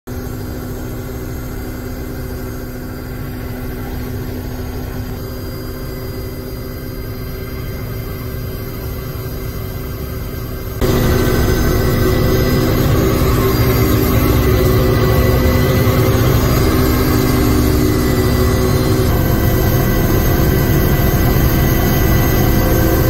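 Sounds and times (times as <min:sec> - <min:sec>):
helicopter engine and rotor: 0:00.1 - 0:23.0.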